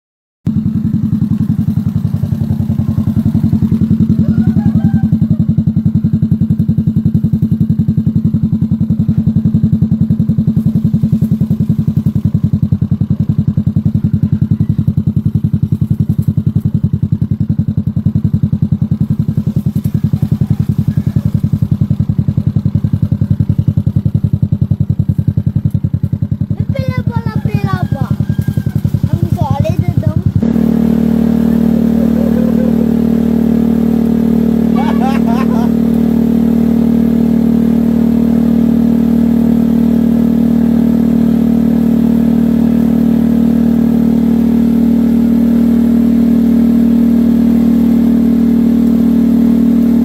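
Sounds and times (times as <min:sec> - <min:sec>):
motorcycle engine idling: 0:00.5 - 0:50.0.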